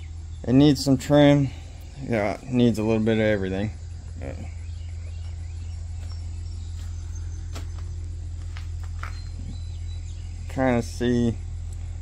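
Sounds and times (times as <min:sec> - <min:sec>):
faint insects chirping: 0:00.0 - 0:12.0
steady low rumble: 0:00.0 - 0:12.0.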